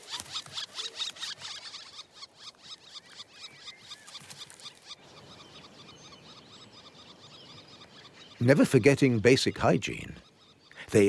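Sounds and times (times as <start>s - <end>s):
soft bird calls: 0.0s - 11.0s
woodpecker nestlings begging calls: 0.0s - 11.0s.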